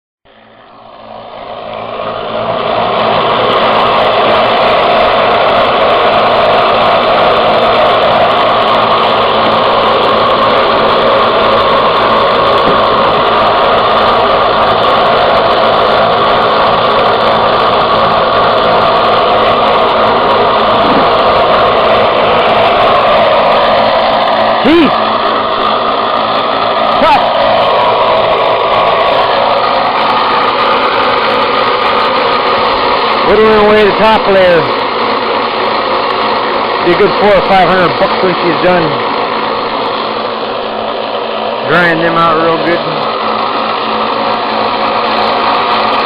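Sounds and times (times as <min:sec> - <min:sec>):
power sander grinding: 0:00.4 - 0:46.0.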